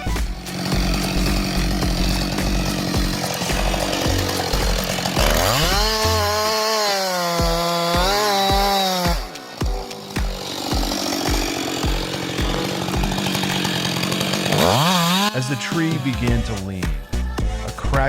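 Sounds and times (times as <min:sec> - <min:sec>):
chainsaw cutting into tree trunk: 0:00.0 - 0:16.4.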